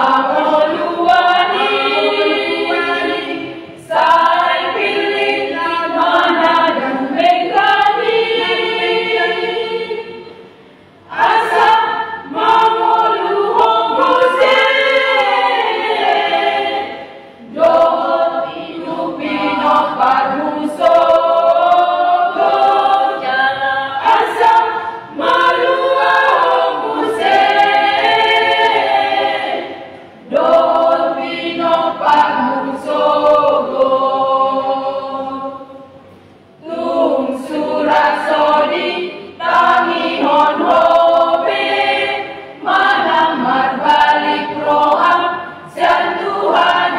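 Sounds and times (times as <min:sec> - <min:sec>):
women's choir singing a cappella: 0:00.0 - 0:46.9.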